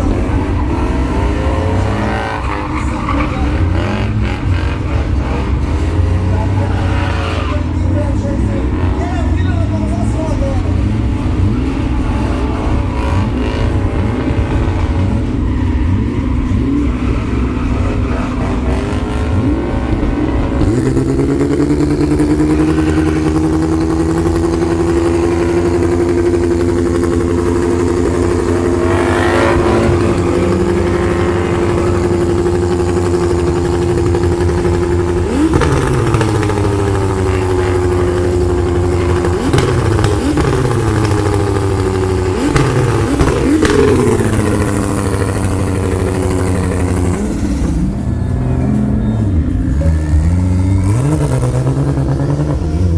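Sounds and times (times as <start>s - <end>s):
car engine revving high: 0.0s - 52.9s.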